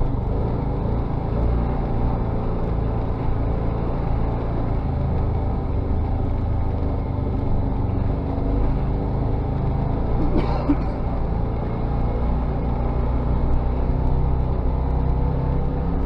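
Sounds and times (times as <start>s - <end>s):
utility vehicle engine droning: 0.0s - 16.0s.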